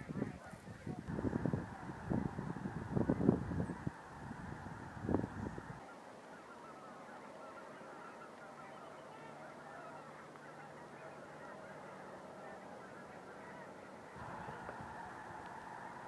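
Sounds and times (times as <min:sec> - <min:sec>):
distant geese honking: 0:00.0 - 0:16.0.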